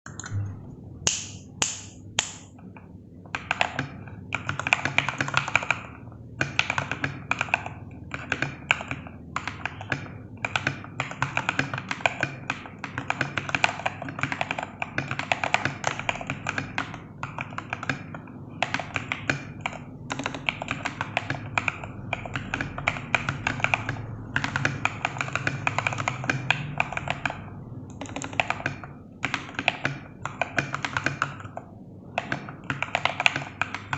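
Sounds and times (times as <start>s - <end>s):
mechanical keyboard typing: 3.3s - 33.9s.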